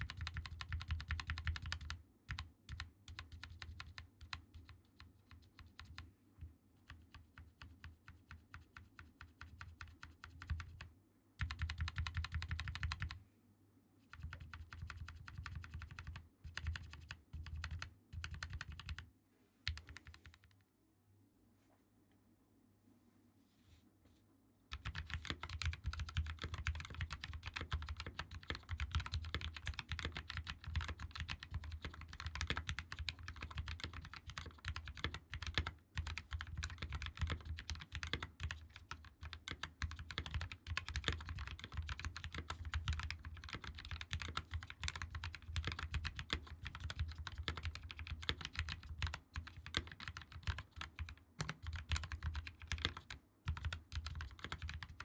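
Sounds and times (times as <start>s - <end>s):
mechanical keyboard typing: 0.0s - 6.1s, 6.9s - 13.2s, 14.1s - 19.0s, 19.7s - 20.6s, 24.7s - 55.0s.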